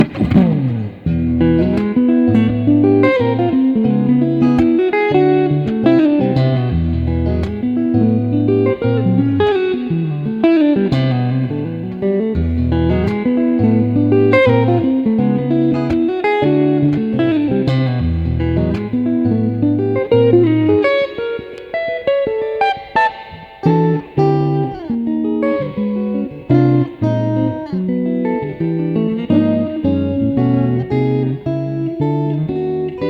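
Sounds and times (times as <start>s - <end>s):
electric guitar melody: 0.0s - 33.0s.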